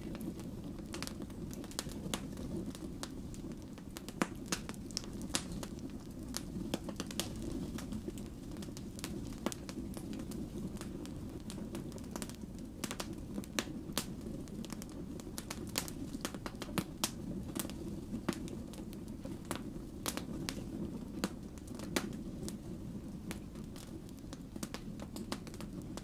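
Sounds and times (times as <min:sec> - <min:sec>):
crackles and pops from logs: 0:00.0 - 0:26.0
low rumble of flame: 0:00.0 - 0:26.0.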